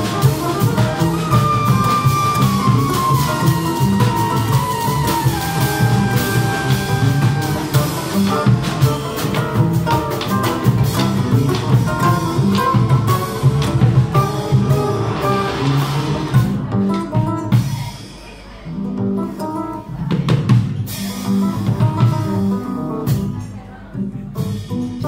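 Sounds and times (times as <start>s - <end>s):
drums and cymbals: 0.0s - 23.6s, 24.3s - 25.0s
acoustic guitar melody: 0.0s - 25.0s.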